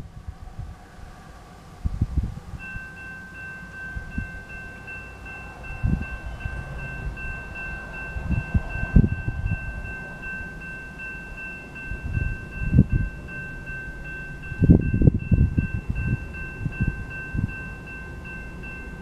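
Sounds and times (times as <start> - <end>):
wind buffeting microphone: 0.0 - 19.0
crossing warning bell ringing: 2.6 - 19.0.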